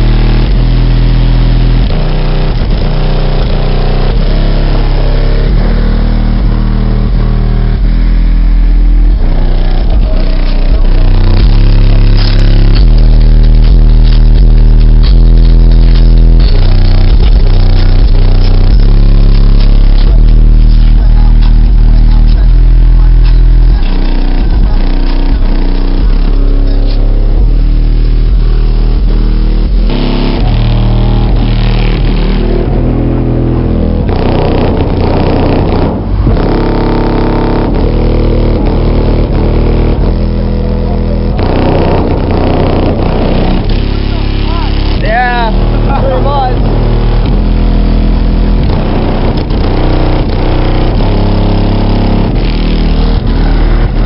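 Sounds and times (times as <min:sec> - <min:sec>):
loud bass-heavy music: 0:00.0 - 0:54.0.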